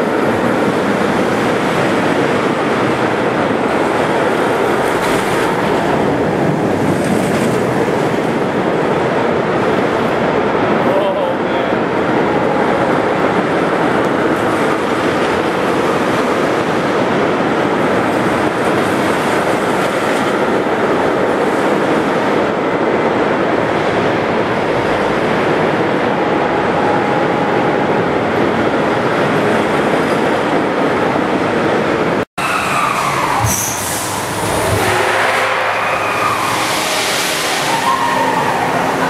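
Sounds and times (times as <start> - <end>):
roller coaster running on track: 0.0 - 39.0.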